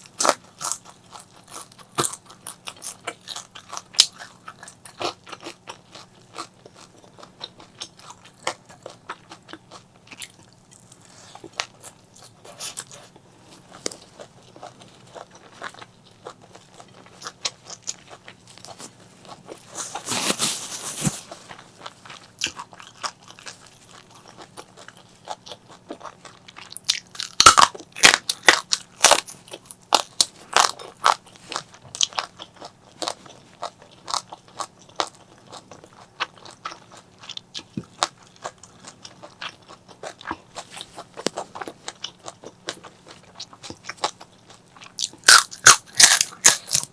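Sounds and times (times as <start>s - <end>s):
crunchy chewing of fried fish: 0.0s - 46.9s.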